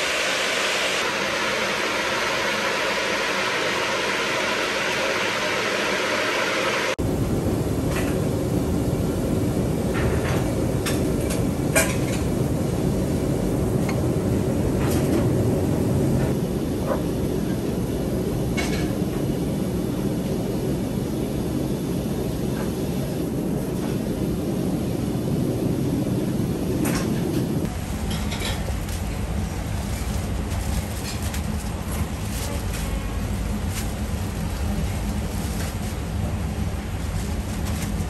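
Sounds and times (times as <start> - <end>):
kitchen machinery low rumble: 0.0 - 38.0.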